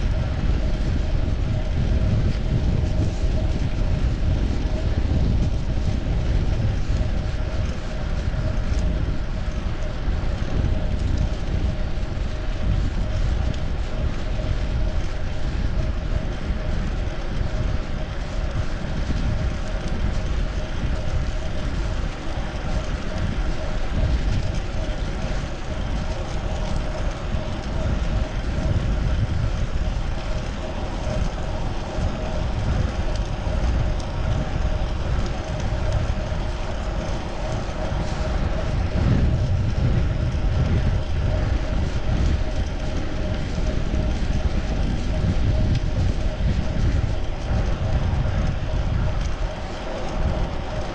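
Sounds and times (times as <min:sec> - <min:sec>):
faint steady hum: 0:00.0 - 0:50.9
wind rushing on microphone: 0:00.0 - 0:50.9.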